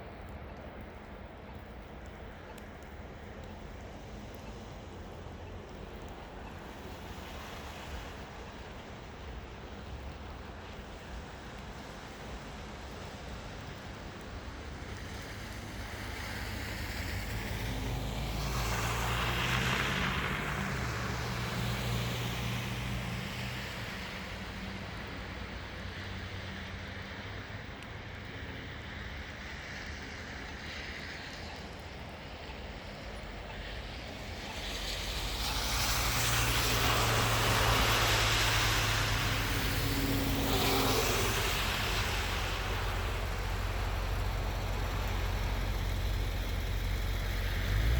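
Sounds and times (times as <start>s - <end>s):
vehicles passing by: 0.0s - 47.9s.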